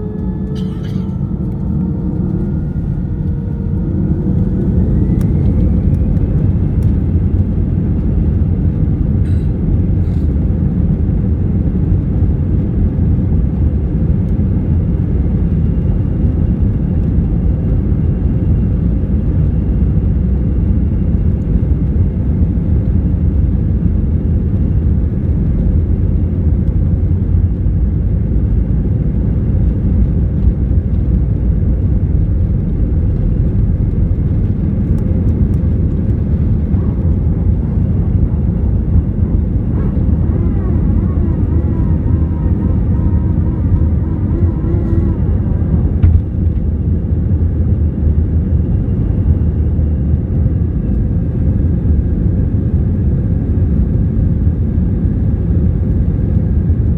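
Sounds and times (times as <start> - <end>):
jet engines whining and droning: 0.0 - 56.9.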